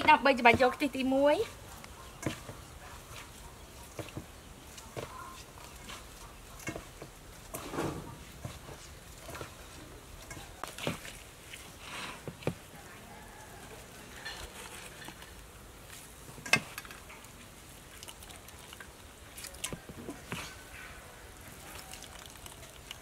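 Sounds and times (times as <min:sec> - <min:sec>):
hands squelching wet coconut: 0:00.0 - 0:12.7, 0:13.7 - 0:23.0.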